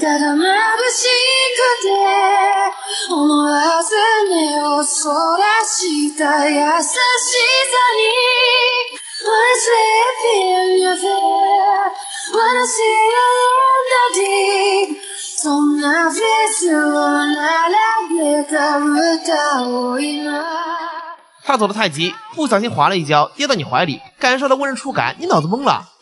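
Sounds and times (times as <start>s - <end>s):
woman singing with vibrato: 0.0s - 21.3s, 22.0s - 22.4s.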